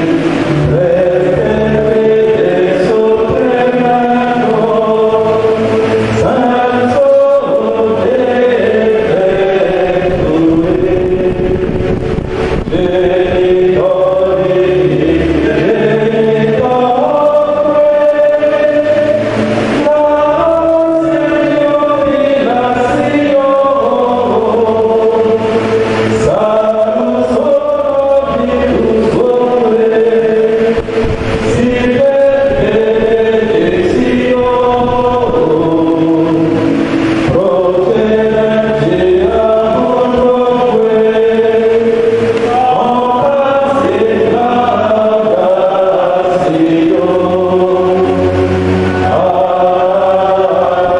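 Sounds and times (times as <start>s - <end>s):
choir singing a hymn: 0.0s - 50.9s.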